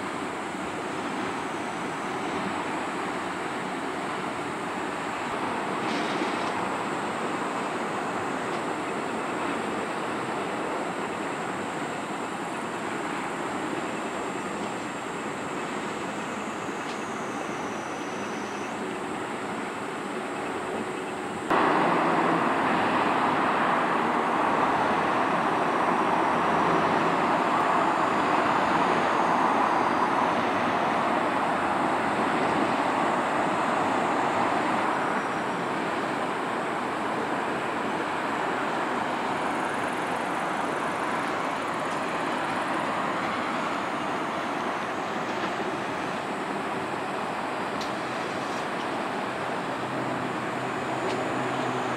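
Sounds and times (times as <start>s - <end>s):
road traffic hum: 0.0s - 51.9s.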